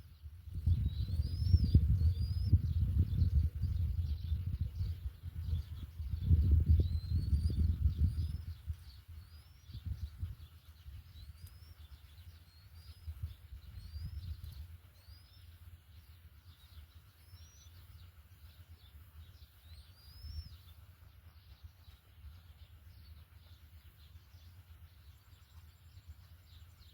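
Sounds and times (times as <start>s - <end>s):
low uneven rumble: 0.0s - 26.9s
small bird chirping: 0.0s - 26.9s.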